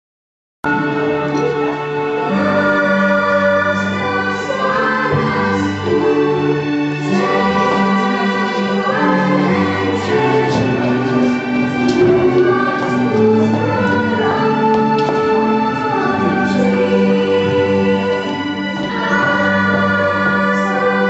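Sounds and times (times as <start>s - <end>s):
choir singing held chords: 0.7s - 21.0s.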